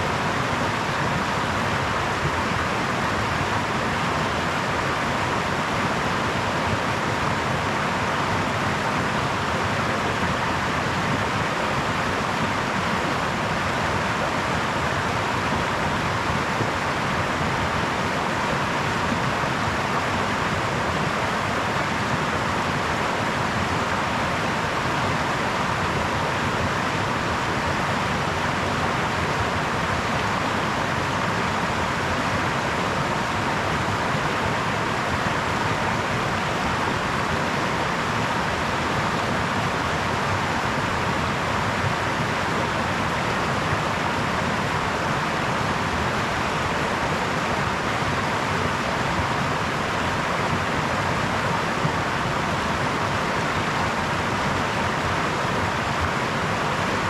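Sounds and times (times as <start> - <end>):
brook babbling over stones: 0.0 - 57.0.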